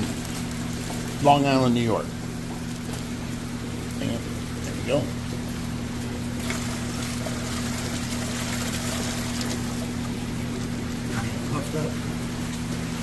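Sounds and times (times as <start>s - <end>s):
water running into plastic bucket: 0.0s - 11.5s
low electrical hum: 0.0s - 13.0s.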